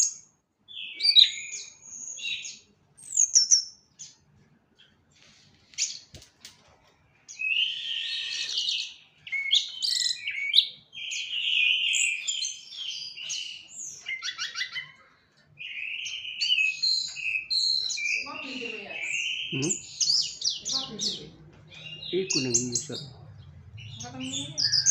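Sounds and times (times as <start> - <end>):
songbird singing chirps and whistles: 0.0 - 6.2, 7.2 - 24.9.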